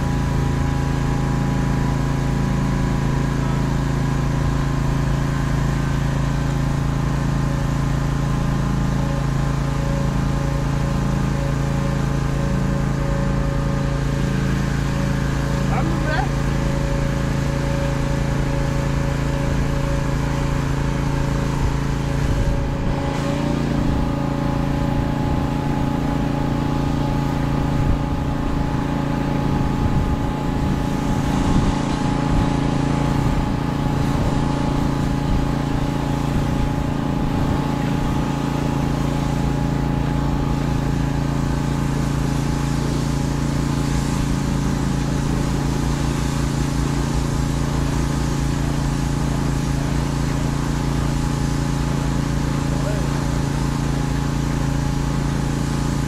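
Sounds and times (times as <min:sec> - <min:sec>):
small engine droning: 0:00.0 - 0:56.0.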